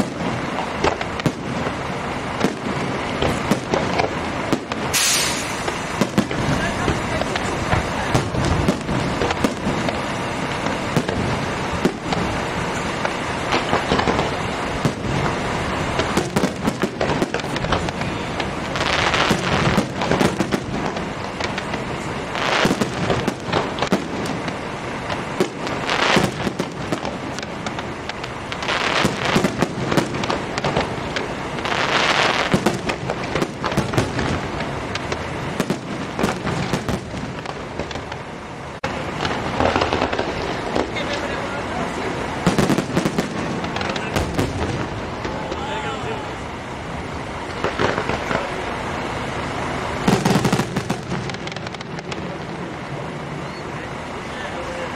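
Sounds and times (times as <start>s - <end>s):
fireworks bursting and crackling: 0.0s - 54.9s.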